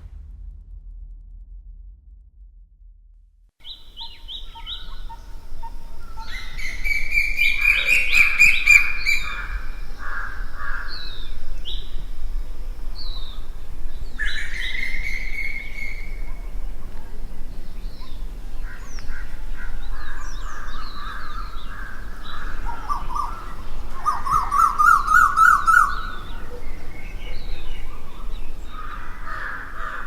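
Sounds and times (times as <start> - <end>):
low steady rumble: 0.0 - 30.0
birds chirping and singing: 3.6 - 30.0.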